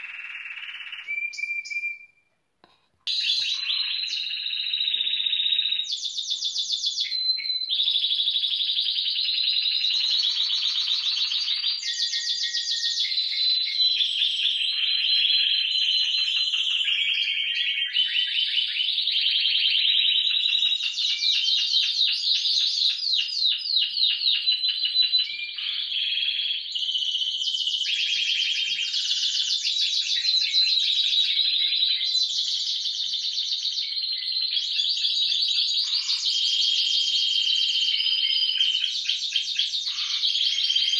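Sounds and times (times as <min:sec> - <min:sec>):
canaries singing trills: 0:00.0 - 0:02.2, 0:03.1 - 0:40.9.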